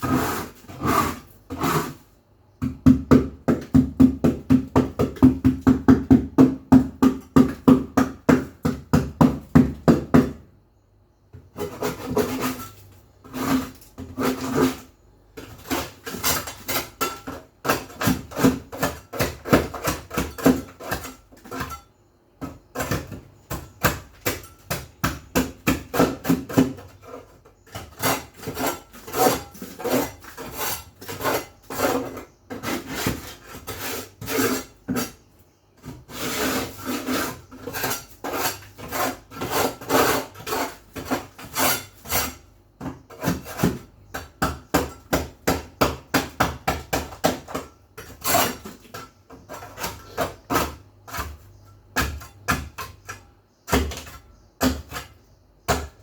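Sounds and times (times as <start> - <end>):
scrubbing a hard surface: 0.0 - 2.1, 11.4 - 21.9, 22.5 - 56.0.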